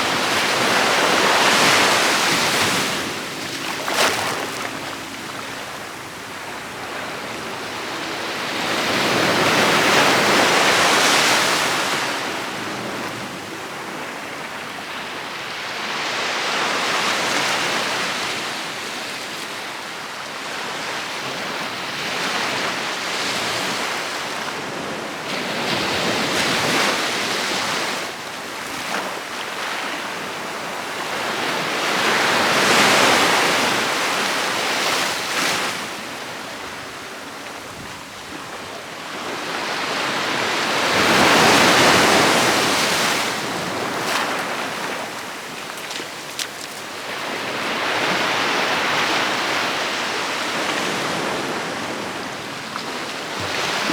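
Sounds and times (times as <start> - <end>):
sea waves breaking on beach: 0.0 - 19.2, 22.2 - 53.9.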